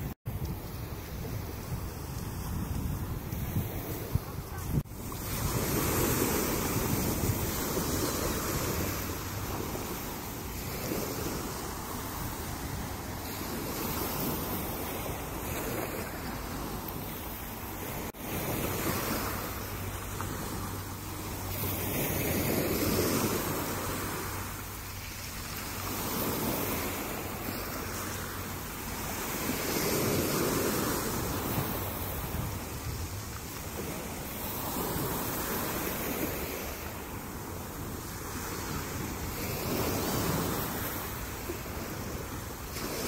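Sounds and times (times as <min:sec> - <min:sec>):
wind buffeting microphone: 0:00.0 - 0:43.0
waves washing on pebbles: 0:00.5 - 0:43.0.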